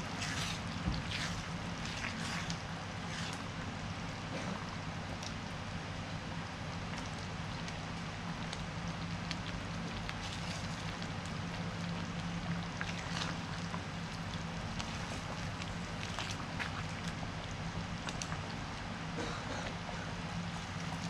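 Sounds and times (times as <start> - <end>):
curry simmering with hiss and pops: 0.0 - 21.0
low steady hum: 0.0 - 21.0.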